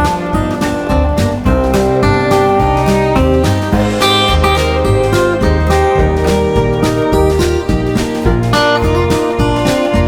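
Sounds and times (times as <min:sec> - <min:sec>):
acoustic guitar music: 0:00.0 - 0:10.0
bass line: 0:00.0 - 0:10.0
steady beat: 0:00.0 - 0:10.0.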